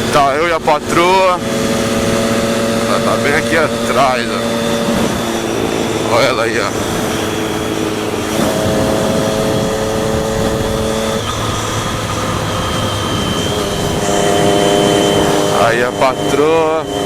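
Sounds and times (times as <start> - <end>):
motorcycle engine running: 0.0 - 17.0
wind noise: 0.0 - 17.0.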